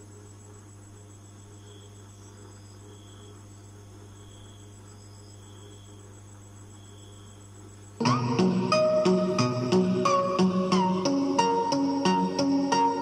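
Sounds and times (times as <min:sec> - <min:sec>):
low mains hum from speaker: 0:00.0 - 0:13.0.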